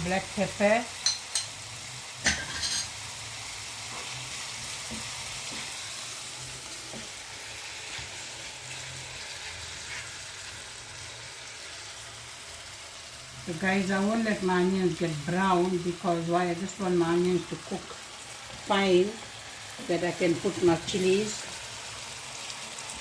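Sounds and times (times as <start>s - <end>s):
onions frying in oil: 0.0s - 23.0s.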